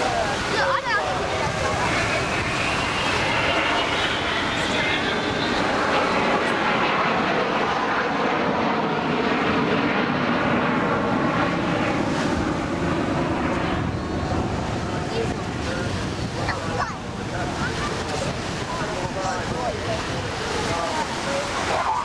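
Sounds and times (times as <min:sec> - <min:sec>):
jet aircraft roar: 0:00.0 - 0:22.0.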